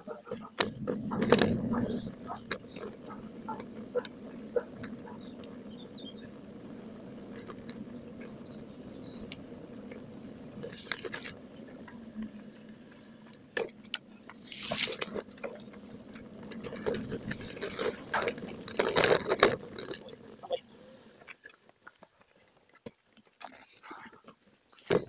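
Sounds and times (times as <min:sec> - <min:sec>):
bicycle riding rumble: 0:00.0 - 0:25.0
bicycle clicks and rattles: 0:00.3 - 0:20.4.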